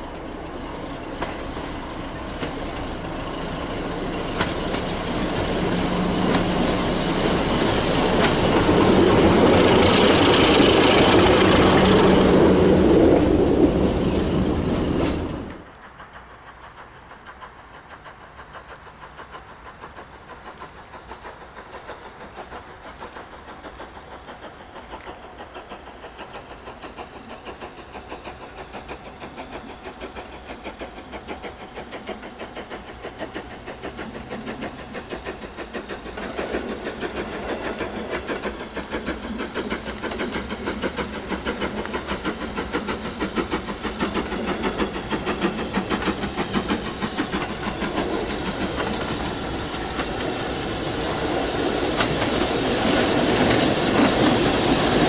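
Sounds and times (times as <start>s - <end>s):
diesel locomotive engine: 0.0s - 55.0s
train wheel clatter: 0.0s - 55.0s.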